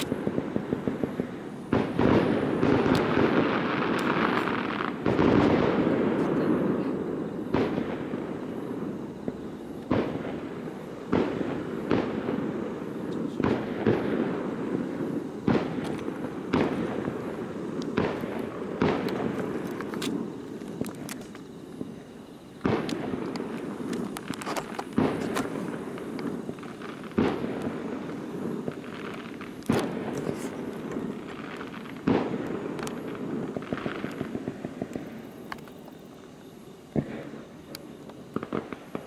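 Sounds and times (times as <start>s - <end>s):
fireworks shells bursting with bangs: 0.0s - 39.0s.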